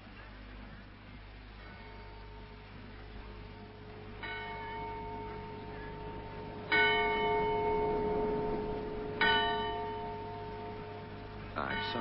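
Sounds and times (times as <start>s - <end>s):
bell ringing: 1.8s - 12.0s.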